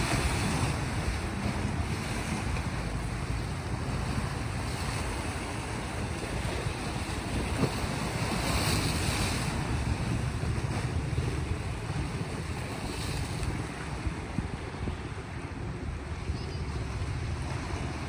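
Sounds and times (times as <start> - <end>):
waves washing on rocky shore: 0.0 - 18.0
wind rumbling on microphone: 0.0 - 18.0.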